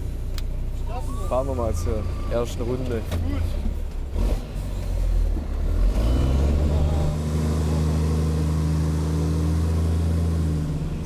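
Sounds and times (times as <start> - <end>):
diesel truck engine pulling away: 0.0 - 11.0.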